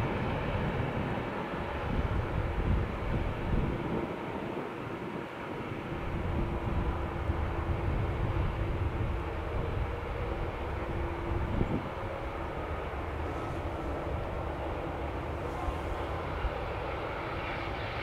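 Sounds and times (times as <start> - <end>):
jet engines rumbling at taxi: 0.0 - 18.0.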